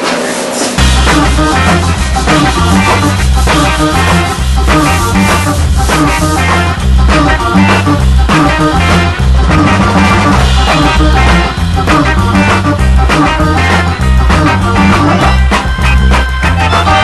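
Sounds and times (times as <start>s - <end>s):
upbeat band music: 0.0s - 17.0s.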